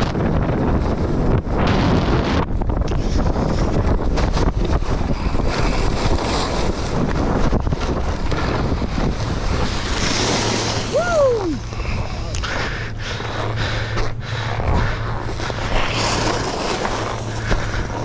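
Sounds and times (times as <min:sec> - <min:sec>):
wind rushing over microphone: 0:00.0 - 0:18.0
skis scraping over snow: 0:03.0 - 0:18.0.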